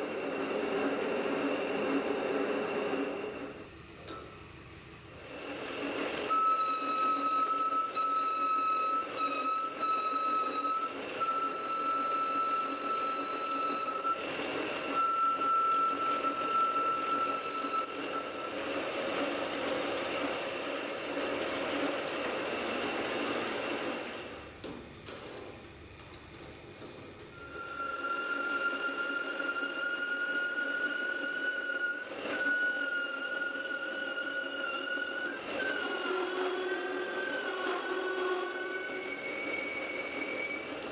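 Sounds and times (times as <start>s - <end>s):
high squeal of lathe cutting: 0.0s - 3.7s, 5.3s - 24.4s, 27.3s - 40.9s
lathe machine running: 0.0s - 40.9s.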